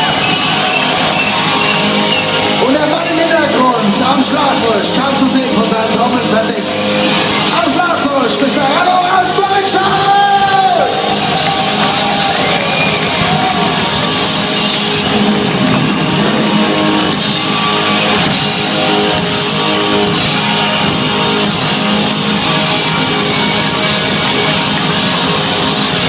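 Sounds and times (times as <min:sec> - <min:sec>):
loud live rock band: 0:00.0 - 0:26.0.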